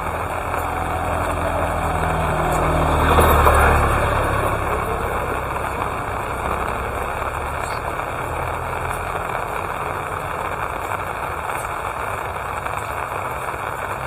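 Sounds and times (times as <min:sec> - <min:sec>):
steady rain: 0:00.0 - 0:14.0
vehicle engine rumble: 0:00.0 - 0:14.0.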